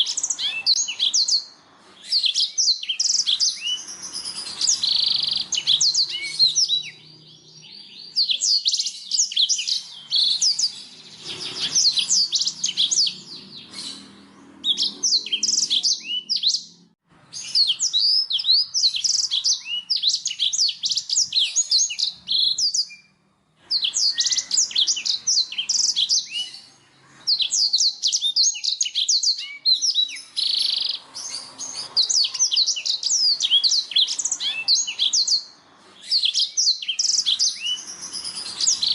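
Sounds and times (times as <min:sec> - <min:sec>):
canary singing twittering trills: 0:00.0 - 0:38.9.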